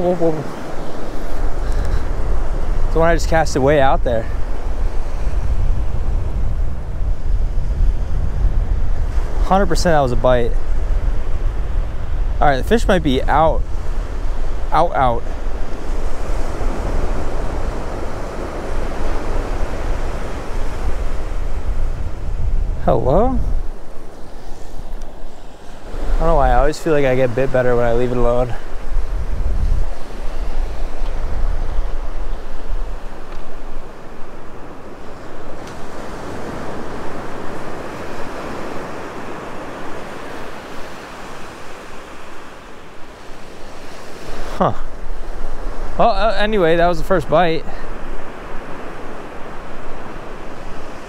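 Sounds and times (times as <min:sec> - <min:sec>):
ocean surf breaking: 0:00.0 - 0:51.0
wind buffeting microphone: 0:00.0 - 0:51.0.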